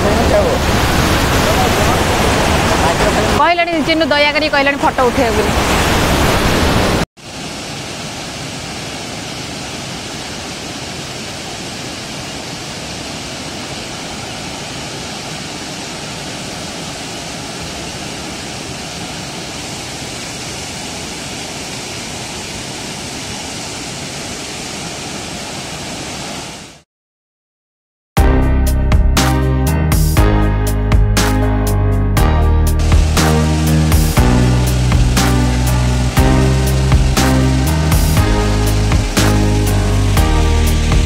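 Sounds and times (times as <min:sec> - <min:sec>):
waterfall rushing over rocks: 0:00.0 - 0:26.8, 0:32.8 - 0:41.0.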